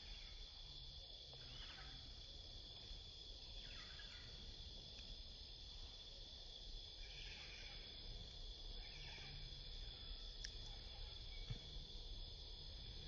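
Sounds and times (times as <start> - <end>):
high-pitched insect drone: 0.0 - 4.8, 6.8 - 13.0.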